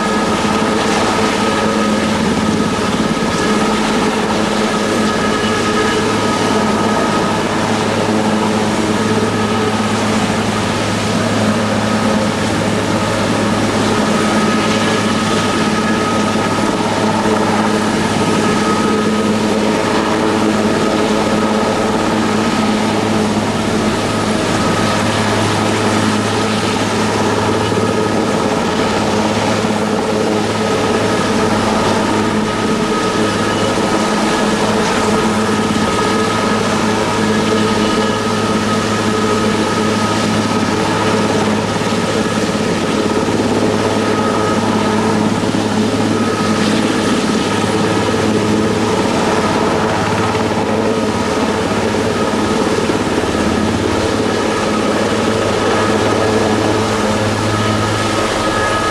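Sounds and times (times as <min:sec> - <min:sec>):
constant engine whine: 0:00.0 - 0:58.9
helicopter hovering: 0:00.0 - 0:58.9.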